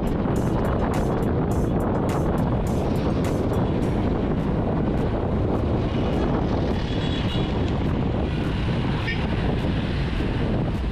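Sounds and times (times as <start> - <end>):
car traffic: 0.0 - 10.9
wind buffeting microphone: 0.0 - 10.9.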